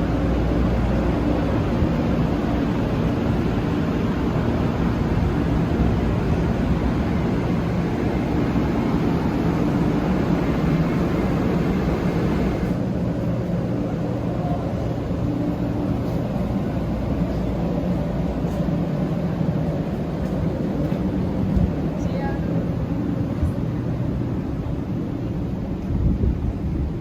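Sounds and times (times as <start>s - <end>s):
train running heard from inside: 0.0s - 27.0s.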